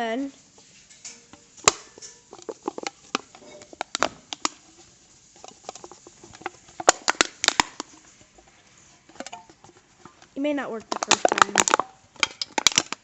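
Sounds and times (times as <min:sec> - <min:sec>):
aluminium can crinkling clicks: 0:00.4 - 0:13.0.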